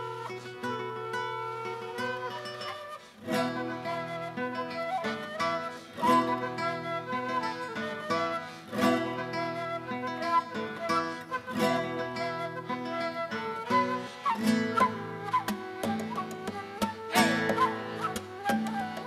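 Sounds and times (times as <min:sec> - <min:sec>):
classical guitar chords: 0:00.0 - 0:19.0
flute melody: 0:00.0 - 0:19.0.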